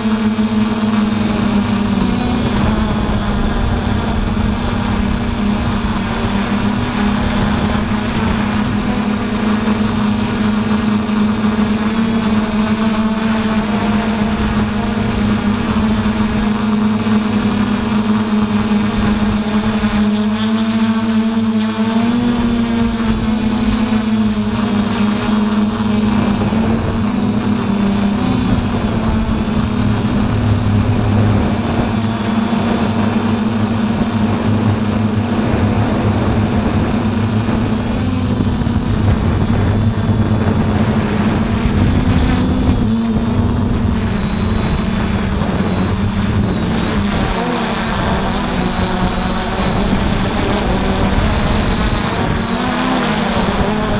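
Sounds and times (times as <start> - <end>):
quadcopter motors humming: 0.0 - 53.9.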